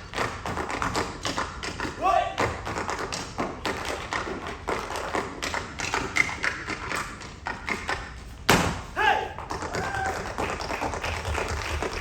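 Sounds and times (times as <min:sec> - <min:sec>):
tap shoes on stage floor: 0:00.0 - 0:12.0.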